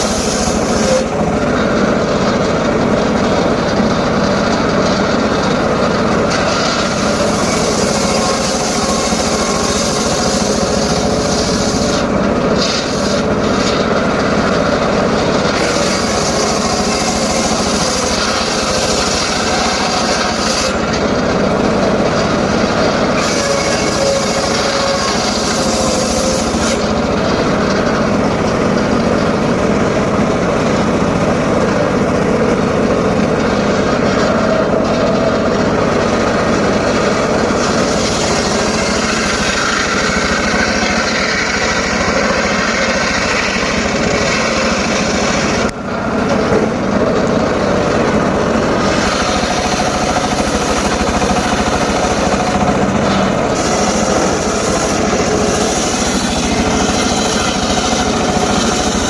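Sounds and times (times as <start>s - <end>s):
circular saw running: 0.0s - 59.0s.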